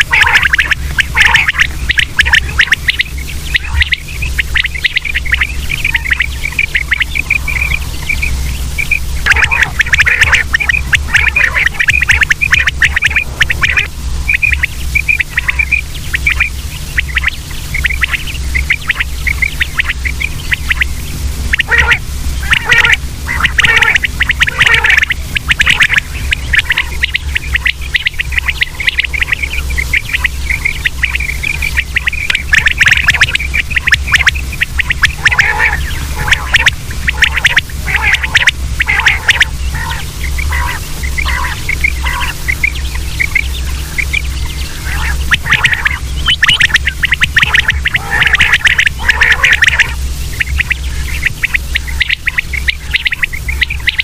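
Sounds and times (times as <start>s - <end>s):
quail calling: 0.0s - 54.0s
steady low hum: 0.0s - 54.0s.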